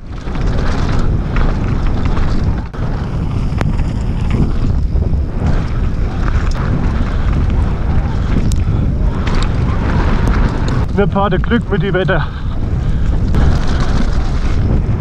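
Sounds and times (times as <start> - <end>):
bike rattling clicks: 0.0 - 15.0
rolling tyre noise: 0.0 - 15.0
wind rushing over microphone: 0.0 - 15.0.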